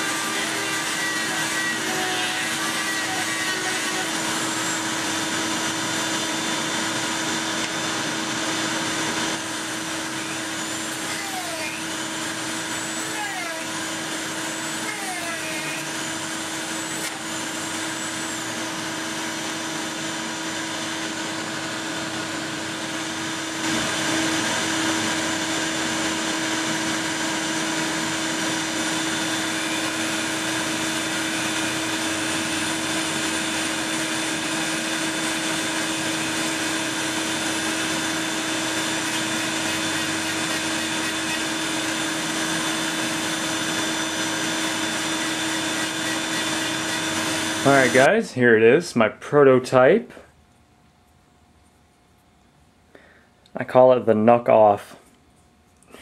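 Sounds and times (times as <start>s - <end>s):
rotary tool motor humming: 0.0s - 48.1s.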